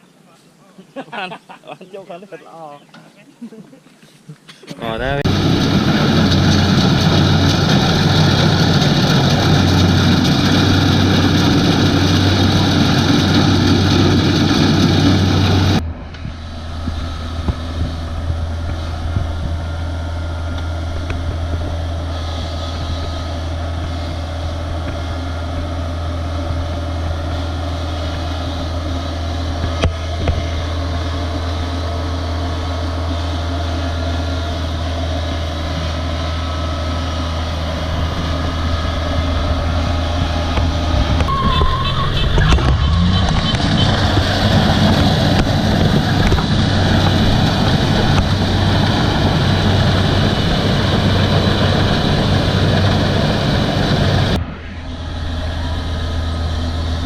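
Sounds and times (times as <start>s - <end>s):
combine harvester engine and threshing: 4.5s - 57.0s.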